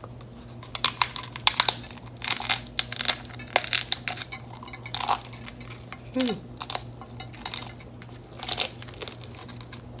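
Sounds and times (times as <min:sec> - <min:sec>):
taco shell crunching: 0:00.4 - 0:10.0.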